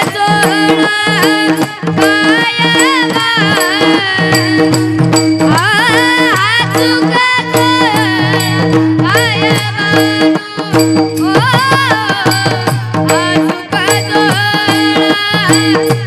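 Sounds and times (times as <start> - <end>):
boy singing devotional song: 0.0 - 16.0
rhythmic percussion: 0.0 - 16.0.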